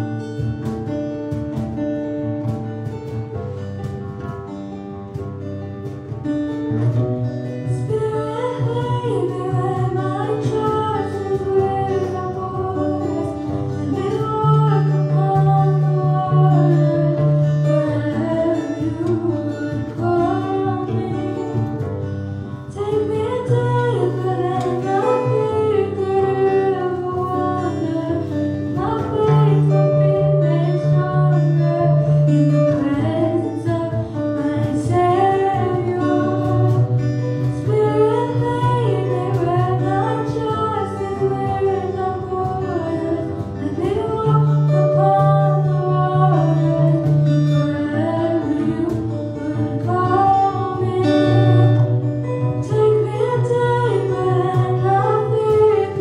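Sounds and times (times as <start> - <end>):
acoustic guitar: 0.0 - 56.0
girl singing into a microphone: 6.8 - 56.0.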